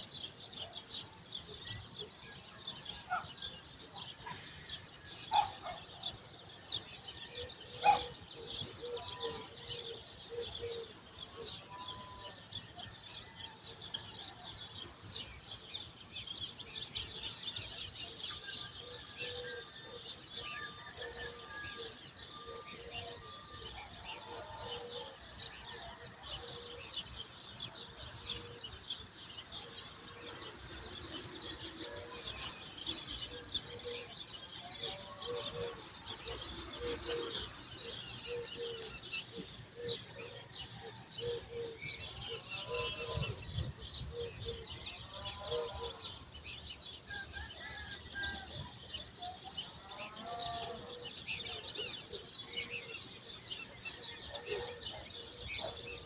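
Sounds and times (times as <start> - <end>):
birds chirping: 3.0 - 56.0.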